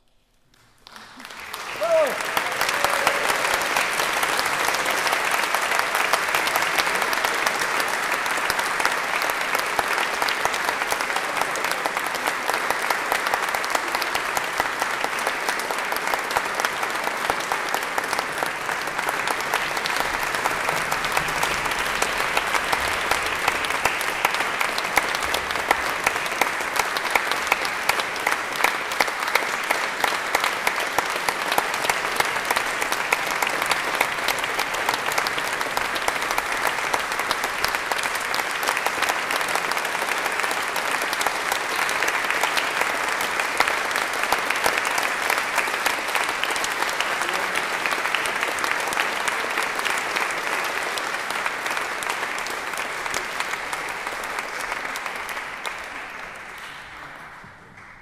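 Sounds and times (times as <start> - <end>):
audience applauding: 0.5 - 58.0.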